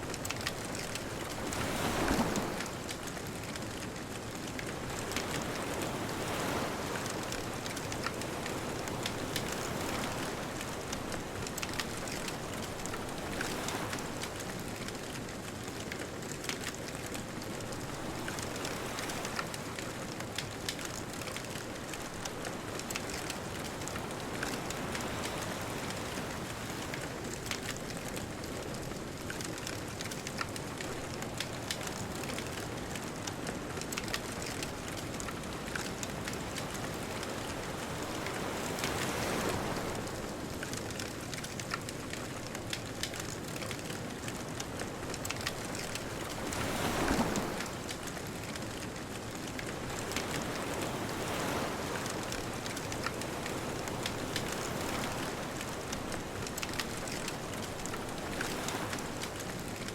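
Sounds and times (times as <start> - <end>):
distant ocean waves: 0.0 - 59.9
bonfire crackling and popping: 0.1 - 59.9.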